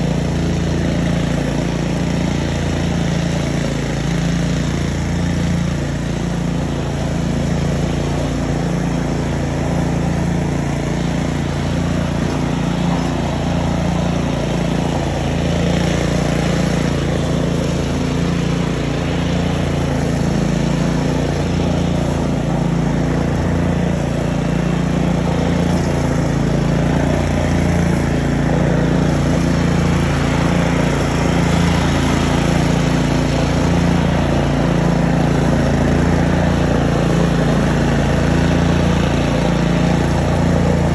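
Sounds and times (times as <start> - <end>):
mower engine running under load: 0.0 - 40.9.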